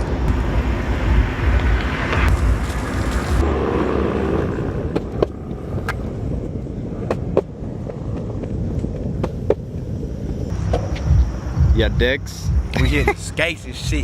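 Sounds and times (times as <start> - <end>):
skateboard wheels rolling on pavement: 0.0 - 11.6.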